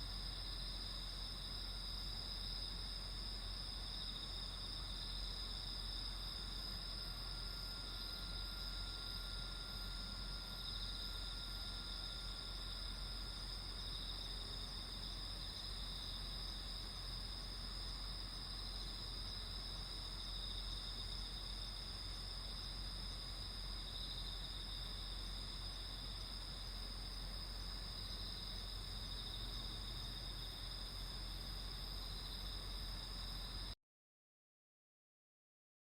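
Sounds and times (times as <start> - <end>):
night insects chorus: 0.0 - 33.8.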